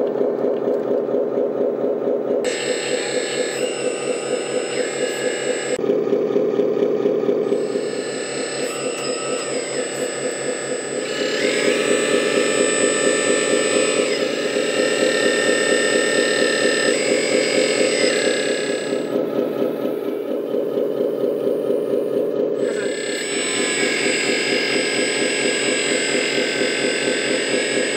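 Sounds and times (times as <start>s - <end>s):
hydraulic pump running: 0.0s - 27.9s
high-pitched whine gliding in pitch: 2.4s - 6.1s, 7.3s - 27.9s.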